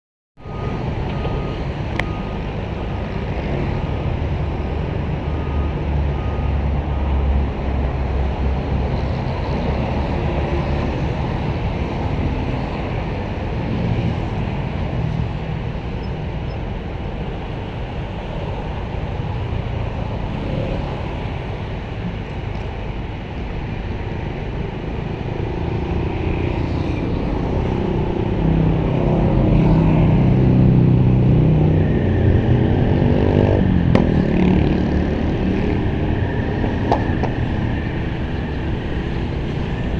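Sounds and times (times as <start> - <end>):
excavator diesel engine running: 0.4 - 39.9.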